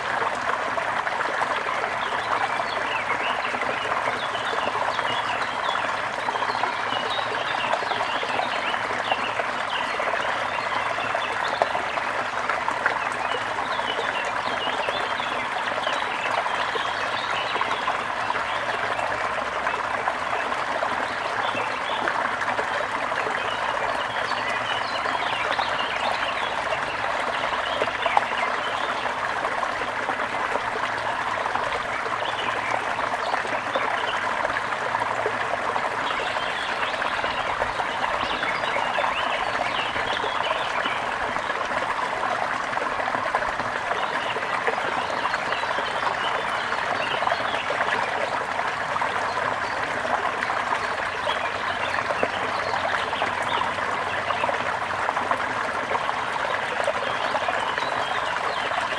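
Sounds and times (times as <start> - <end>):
stream water trickling: 0.0 - 58.9.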